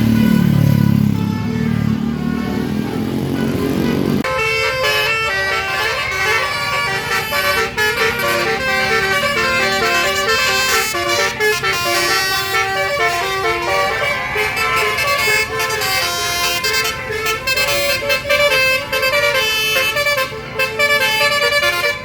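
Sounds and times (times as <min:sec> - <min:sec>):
musical air horn tune: 0:04.2 - 0:22.0.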